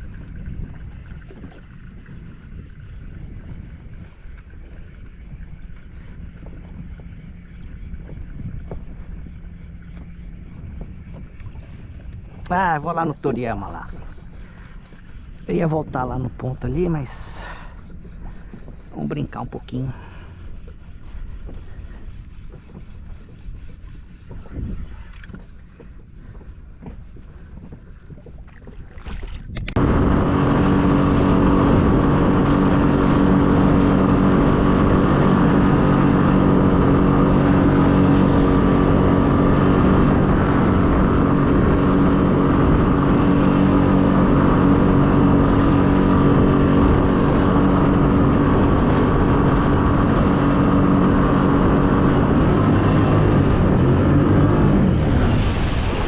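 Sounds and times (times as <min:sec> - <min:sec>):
boat motor running: 0:00.0 - 0:56.0
faint wind: 0:00.0 - 0:56.0
water: 0:00.0 - 0:56.0.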